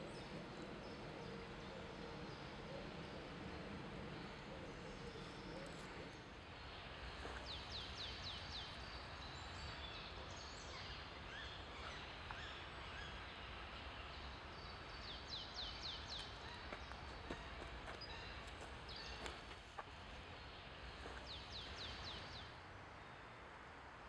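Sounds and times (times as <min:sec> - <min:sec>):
small birds calling: 0:00.0 - 0:23.3
low background rumble: 0:00.0 - 0:24.0.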